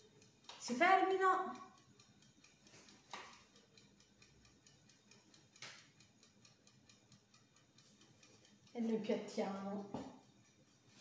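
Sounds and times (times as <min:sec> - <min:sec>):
kitchen timer ticking: 0:00.0 - 0:11.0.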